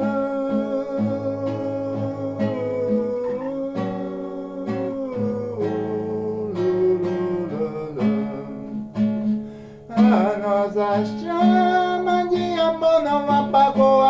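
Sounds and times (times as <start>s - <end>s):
acoustic guitar strumming: 0.0s - 14.0s
held melody line: 0.0s - 14.0s.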